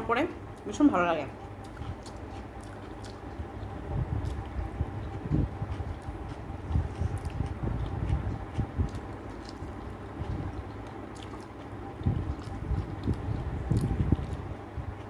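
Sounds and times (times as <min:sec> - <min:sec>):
person chewing food: 0:01.4 - 0:15.0.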